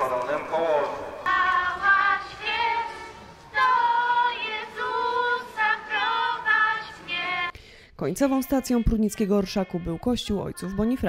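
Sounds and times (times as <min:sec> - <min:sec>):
group singing a carol: 0:00.0 - 0:07.6, 0:08.3 - 0:11.0.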